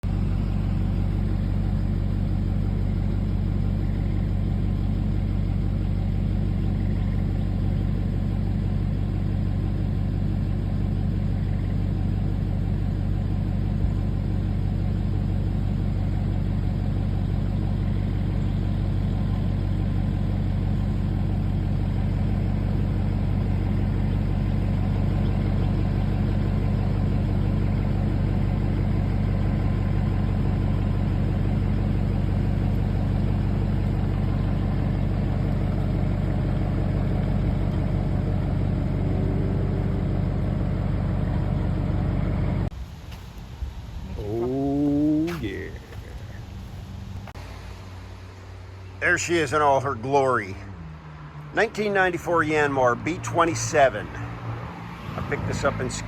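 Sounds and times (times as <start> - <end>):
excavator diesel engine idling: 0.0 - 54.4, 55.2 - 56.0.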